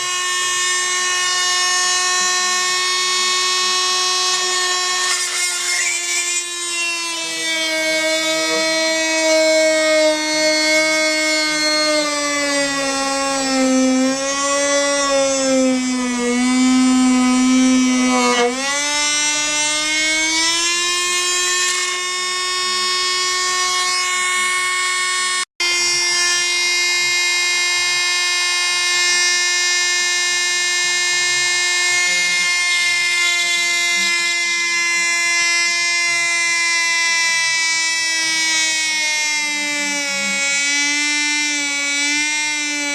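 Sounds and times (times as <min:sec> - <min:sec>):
electric drill motor whining: 0:00.0 - 0:42.9.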